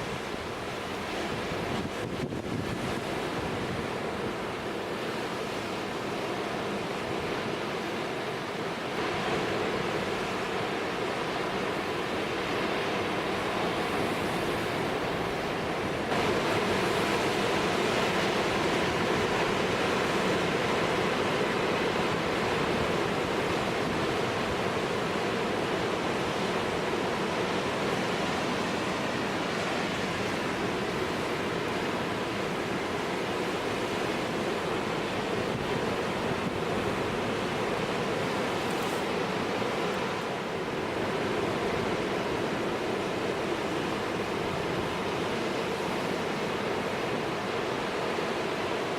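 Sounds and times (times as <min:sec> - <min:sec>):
high wind: 0:00.0 - 0:48.9.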